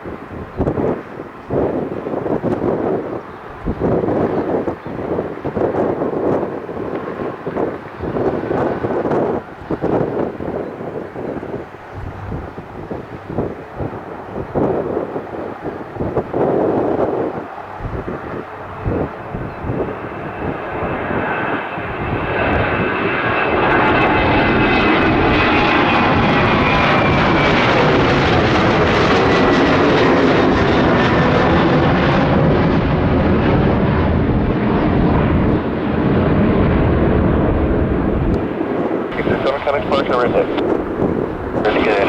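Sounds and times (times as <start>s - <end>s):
jet engine roaring: 0.0s - 42.0s
wind buffeting microphone: 0.0s - 42.0s.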